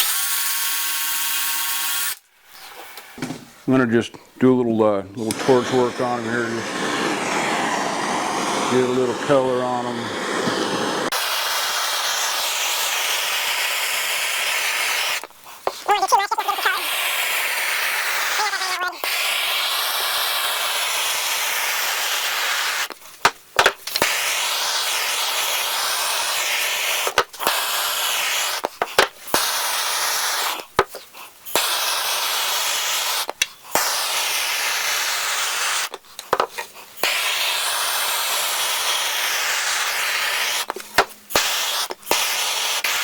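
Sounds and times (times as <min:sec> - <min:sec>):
gas torch hissing: 0:04.8 - 0:43.0.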